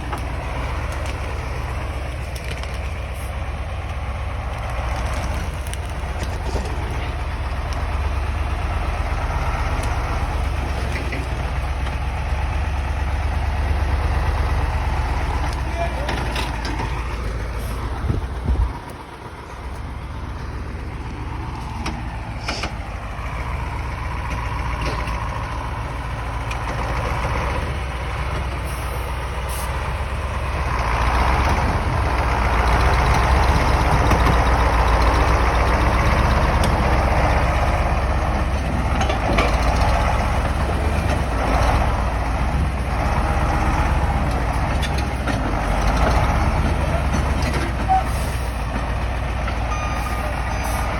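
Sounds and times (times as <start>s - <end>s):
truck diesel engine under load: 0.0s - 50.9s.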